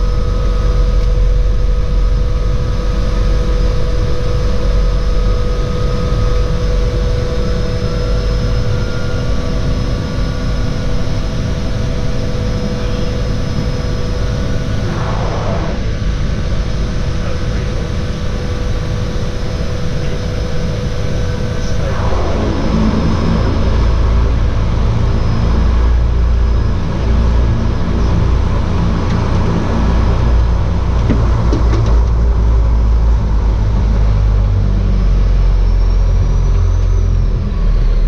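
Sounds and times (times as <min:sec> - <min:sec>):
seaplane engine droning: 0:00.0 - 0:38.0.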